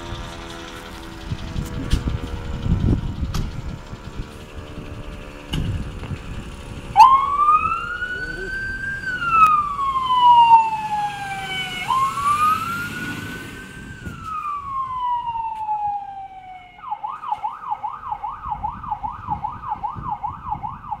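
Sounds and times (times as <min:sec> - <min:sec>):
fire engine siren: 0:00.0 - 0:21.0
low engine rumble: 0:00.0 - 0:21.0.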